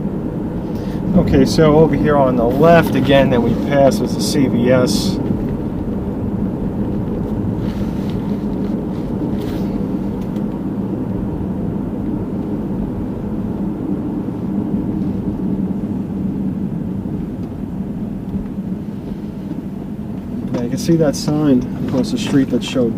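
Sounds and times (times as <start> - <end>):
car road and engine rumble: 0.0 - 22.9
faint steady drone: 0.0 - 22.9.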